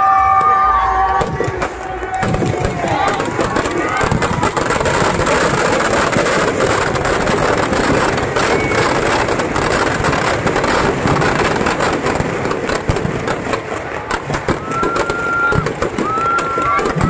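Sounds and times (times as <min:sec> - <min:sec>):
firecrackers crackling and popping: 0:00.0 - 0:17.0.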